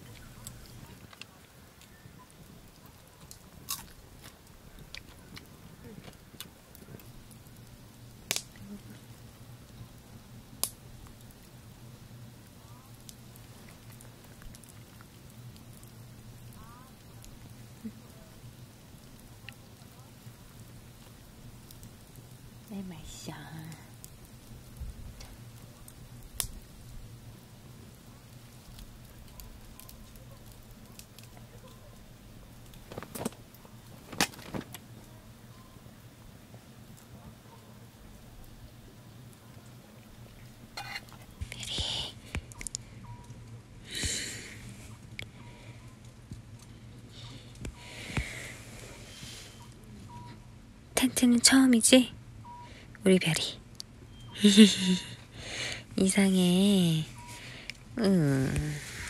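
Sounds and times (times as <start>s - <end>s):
fire popping: 0.0s - 59.0s
low steady hum: 0.0s - 59.0s
wood fire crackling: 0.0s - 59.0s.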